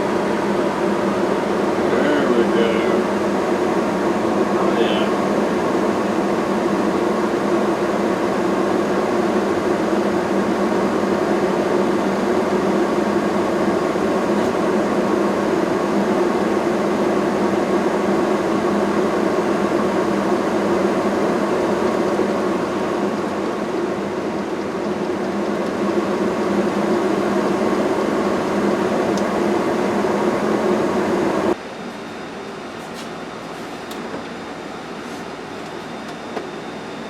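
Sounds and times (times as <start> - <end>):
electric blower fan humming: 0.0 - 37.0.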